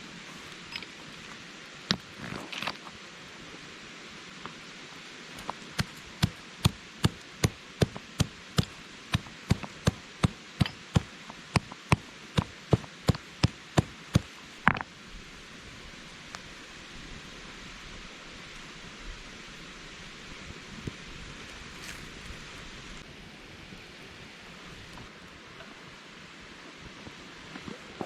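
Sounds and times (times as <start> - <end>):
mountain stream rushing: 0.0 - 28.0.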